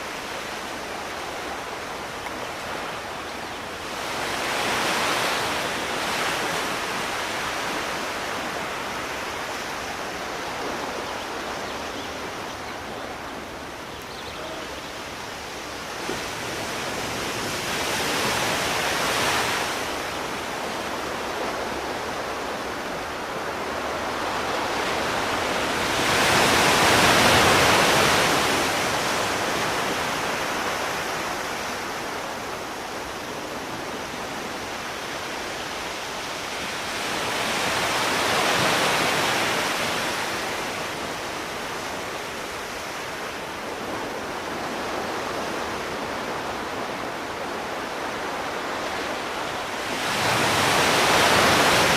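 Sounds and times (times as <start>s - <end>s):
sea waves washing ashore: 0.0s - 51.9s.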